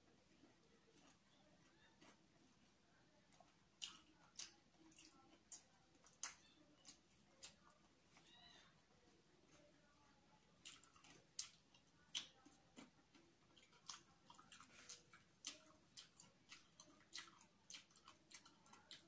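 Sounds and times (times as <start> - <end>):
wet chewing sounds: 0.3 - 19.0.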